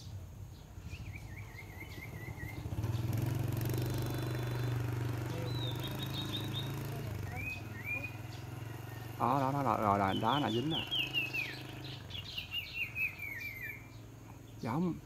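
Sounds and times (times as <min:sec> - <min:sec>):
birds calling: 0:00.0 - 0:15.0
passing vehicle engine: 0:00.8 - 0:15.0.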